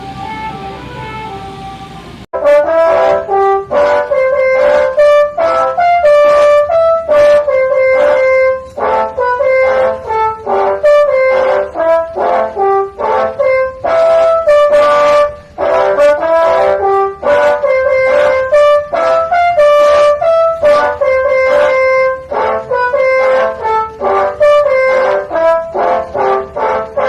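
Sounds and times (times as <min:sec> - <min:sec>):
multi-tone air horns melody: 0:00.0 - 0:27.0.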